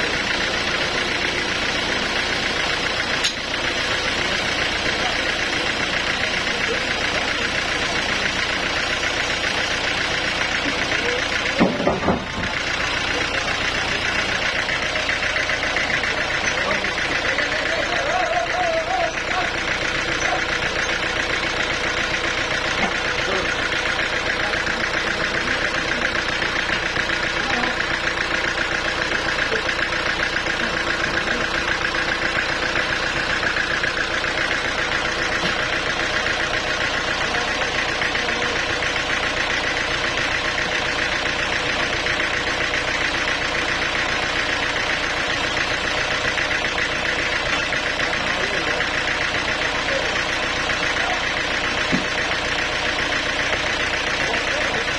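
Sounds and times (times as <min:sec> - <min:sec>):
sawmill engine humming: 0:00.0 - 0:54.9.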